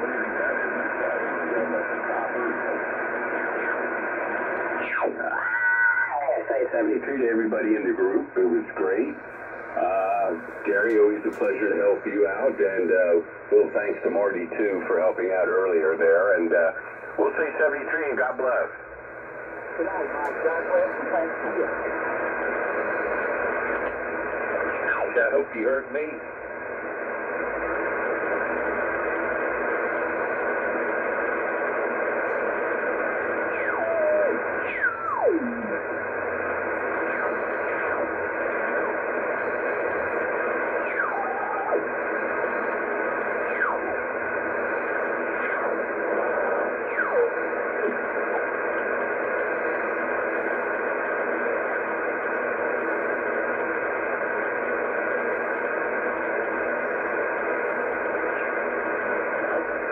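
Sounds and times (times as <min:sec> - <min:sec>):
radio band noise hiss: 0:00.0 - 0:59.9
radio whistling tones: 0:00.1 - 0:59.9.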